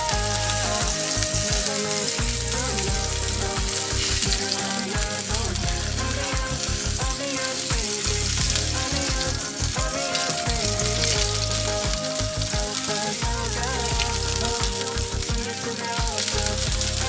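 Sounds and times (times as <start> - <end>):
steak sizzling in frying pan: 0.0 - 17.0.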